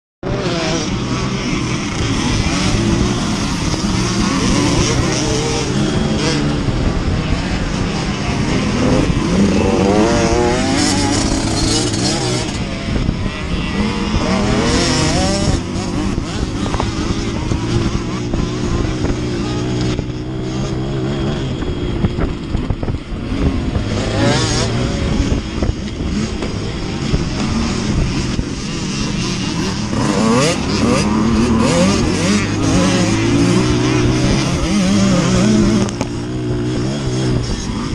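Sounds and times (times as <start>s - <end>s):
dirt bike engines revving: 0.2s - 37.9s.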